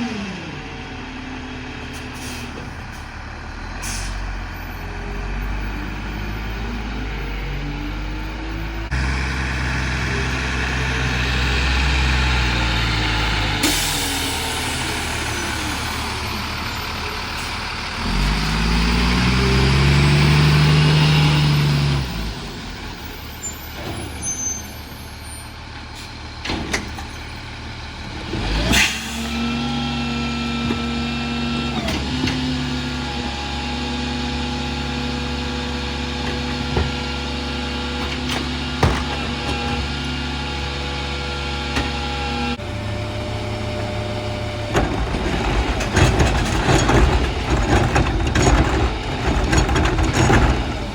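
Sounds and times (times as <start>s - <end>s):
garbage truck diesel engine revving: 0.0s - 25.0s, 25.6s - 50.9s.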